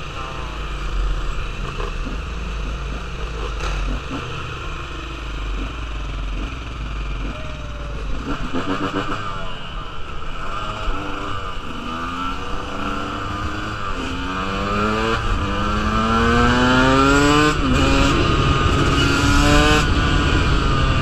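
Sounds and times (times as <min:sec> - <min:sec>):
dirt bike engine accelerating: 0:00.0 - 0:21.0.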